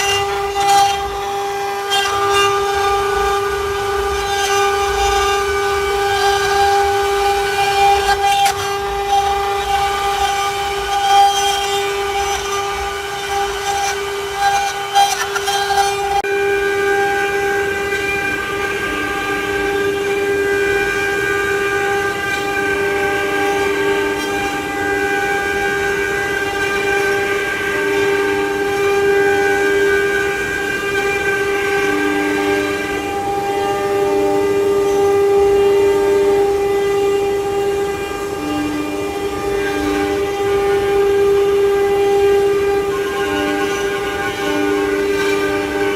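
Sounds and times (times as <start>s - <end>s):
axis motor tones: 0.0s - 45.9s
router spindle whine: 0.0s - 45.9s.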